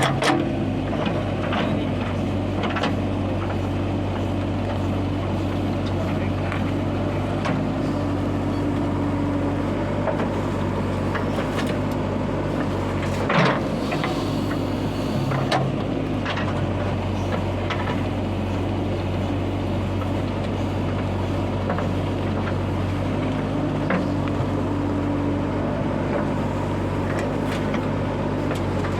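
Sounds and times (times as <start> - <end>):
diesel machinery engines running: 0.0 - 28.9.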